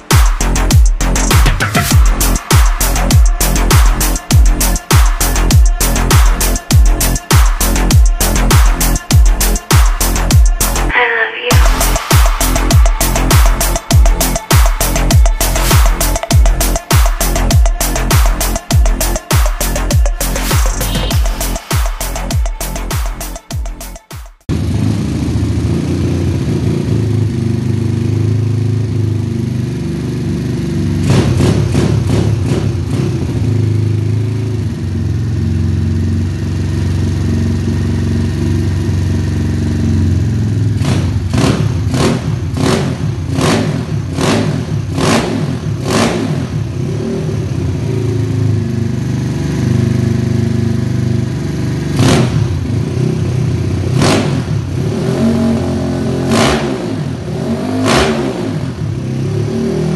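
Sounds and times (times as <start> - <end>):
motorcycle engine revving in bursts: 0.1 - 10.9, 11.5 - 23.3, 24.5 - 59.9.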